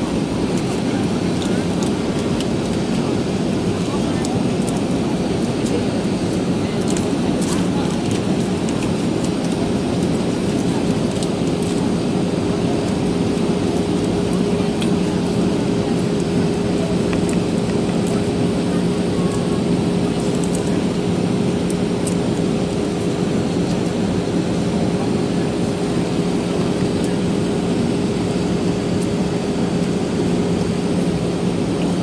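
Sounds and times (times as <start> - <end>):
airplane cabin engine noise: 0.0 - 32.0.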